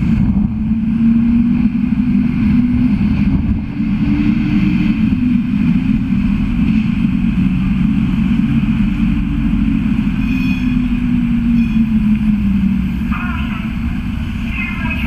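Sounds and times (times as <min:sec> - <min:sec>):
bus engine rumbling: 0:00.0 - 0:15.0
city street traffic: 0:00.0 - 0:15.0.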